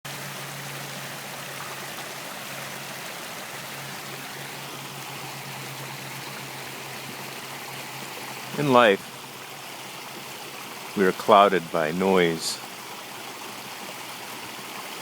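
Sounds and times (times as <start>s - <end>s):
stream flowing: 0.1s - 15.0s.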